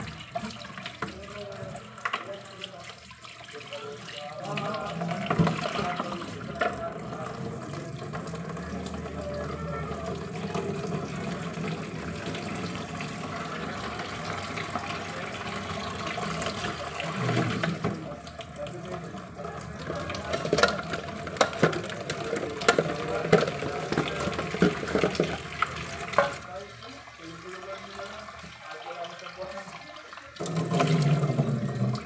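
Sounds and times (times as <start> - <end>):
tap running into a sink: 0.0 - 27.0, 27.6 - 32.0.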